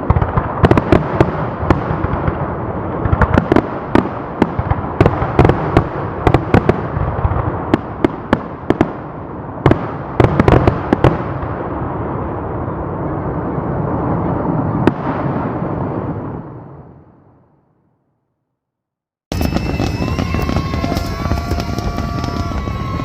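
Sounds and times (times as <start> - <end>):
fireworks bangs and crackles: 0.0 - 17.7, 19.3 - 23.0.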